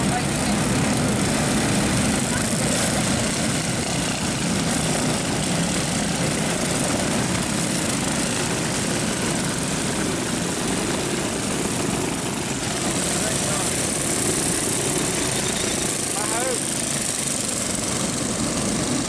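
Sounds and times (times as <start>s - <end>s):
go-kart engines droning: 0.0s - 19.0s.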